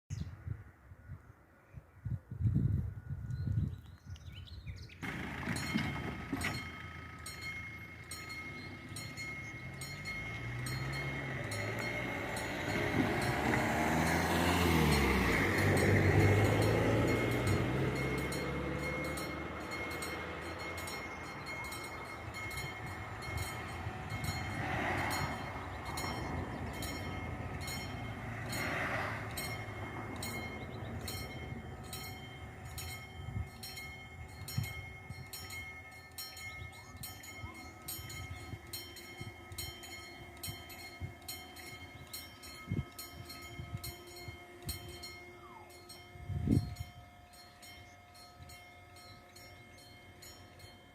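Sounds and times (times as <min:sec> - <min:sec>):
level crossing warning bells ringing: 0:05.0 - 0:50.9
train rumble: 0:05.0 - 0:50.9.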